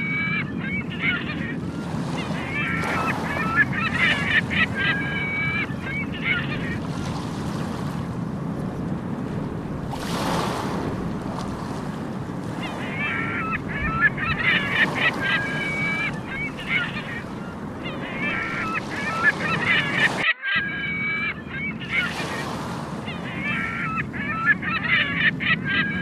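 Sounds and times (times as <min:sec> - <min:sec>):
seagulls calling: 0:00.0 - 0:26.0
surf breaking: 0:01.0 - 0:20.3, 0:21.6 - 0:26.0.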